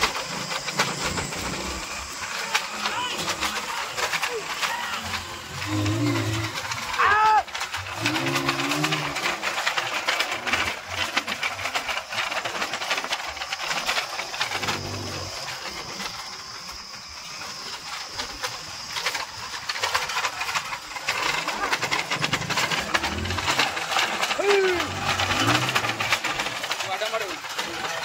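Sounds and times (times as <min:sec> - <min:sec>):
cart rattling and clattering: 0:00.0 - 0:28.0
steady hiss: 0:00.0 - 0:28.0.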